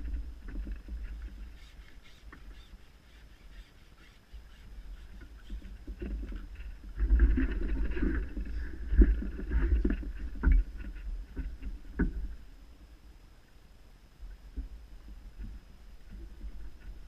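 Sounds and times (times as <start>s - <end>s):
close rustling and rumbling: 0.0s - 13.0s, 14.3s - 17.0s.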